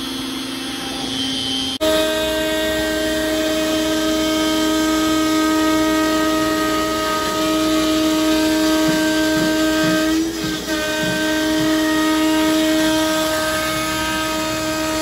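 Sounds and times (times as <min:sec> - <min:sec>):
dust collection hose rushing: 0:00.0 - 0:15.0
router spindle high whine: 0:00.0 - 0:15.0.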